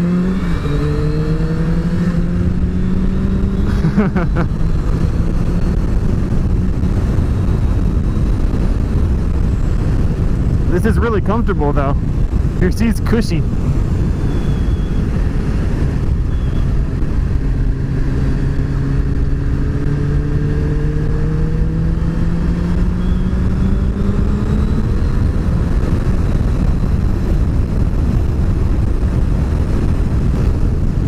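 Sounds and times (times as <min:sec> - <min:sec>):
motorcycle engine: 0:00.0 - 0:31.0
wind rush: 0:00.0 - 0:31.0.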